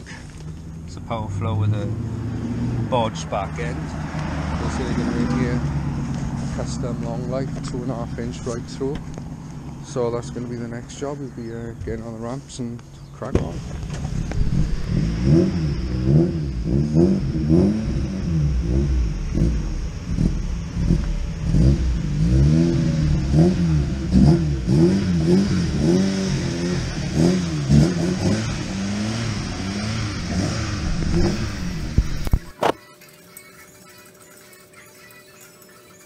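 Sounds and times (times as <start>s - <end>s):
car engine revving: 0.0s - 12.6s, 13.2s - 34.4s.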